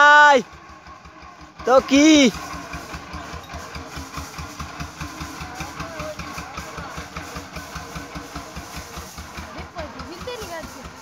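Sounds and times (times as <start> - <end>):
engine running with low thudding: 0.0 - 11.0.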